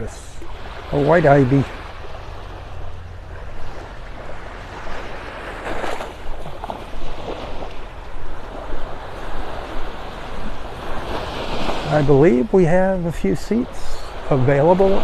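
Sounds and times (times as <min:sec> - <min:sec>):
wind rumbling on microphone: 0:00.0 - 0:12.6
surf breaking on sandy beach: 0:00.0 - 0:15.0.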